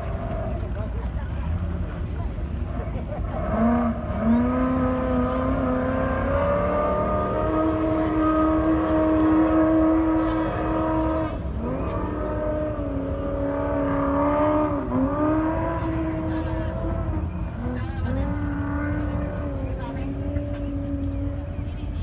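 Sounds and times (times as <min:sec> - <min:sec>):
race vehicle engine revving: 0:00.0 - 0:22.0.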